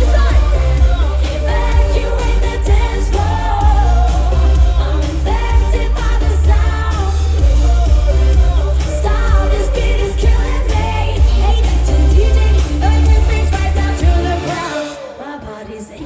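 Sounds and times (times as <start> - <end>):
live dance music with vocals: 0.0 - 16.0.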